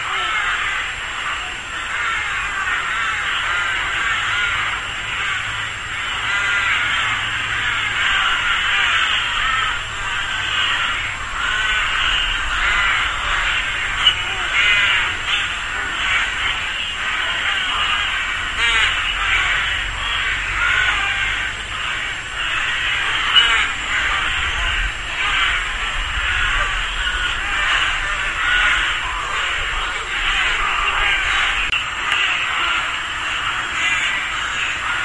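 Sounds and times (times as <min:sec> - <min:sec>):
rooks cawing: 0:00.0 - 0:35.0.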